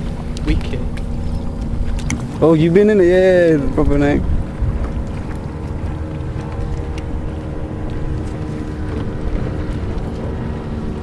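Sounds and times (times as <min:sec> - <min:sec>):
boat engine droning: 0:00.0 - 0:11.0
wind buffeting microphone: 0:00.0 - 0:11.0.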